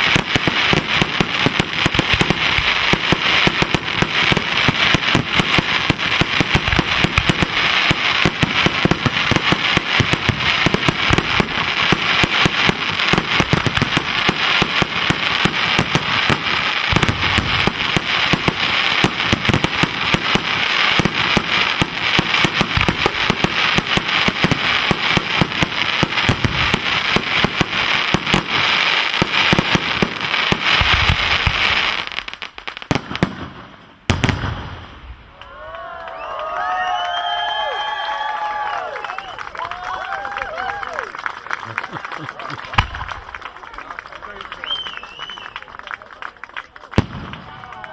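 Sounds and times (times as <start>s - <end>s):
fireworks bangs: 0.0s - 47.9s
fireworks crackling: 0.0s - 47.9s.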